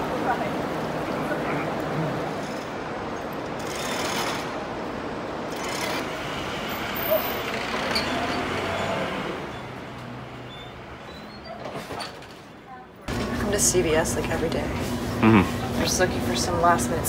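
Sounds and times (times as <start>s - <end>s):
city street traffic hum: 0.0s - 17.0s.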